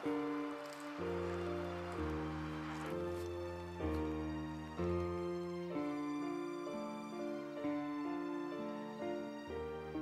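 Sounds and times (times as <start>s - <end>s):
slow sad background music: 0.0s - 10.0s.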